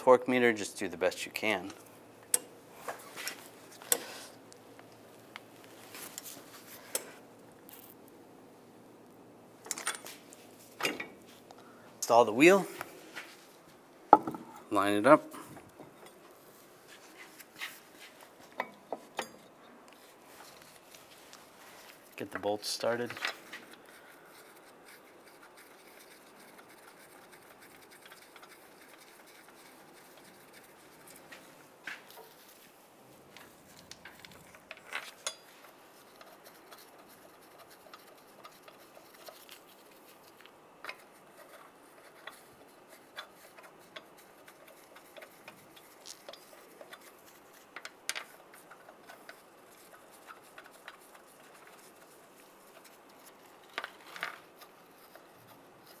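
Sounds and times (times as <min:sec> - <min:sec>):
low hiss: 0:00.0 - 0:56.0.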